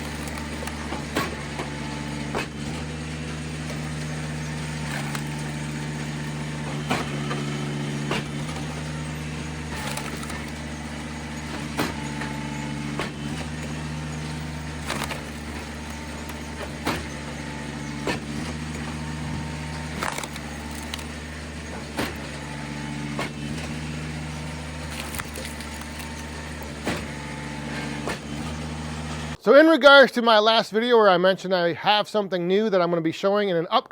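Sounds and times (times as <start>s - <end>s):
log splitter engine running: 0.0s - 29.4s
wood splitting cracks: 0.0s - 29.4s.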